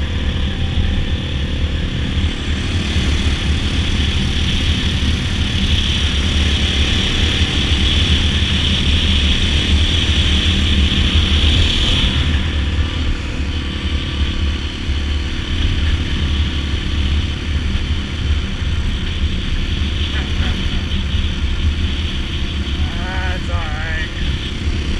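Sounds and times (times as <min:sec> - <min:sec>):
dirt bike engine running: 0:00.0 - 0:24.9.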